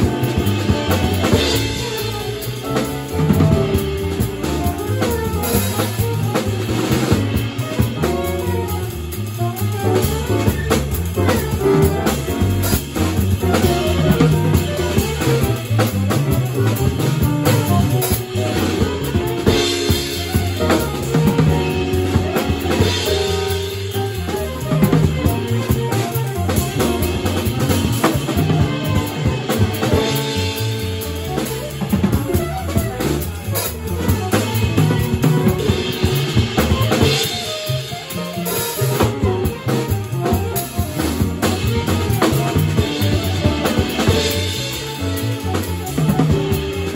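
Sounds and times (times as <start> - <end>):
bass: 0.0 - 46.9
drum kit with cymbals and snare: 0.0 - 46.9
electric keyboard: 0.0 - 46.9
saxophone melody: 0.0 - 46.9.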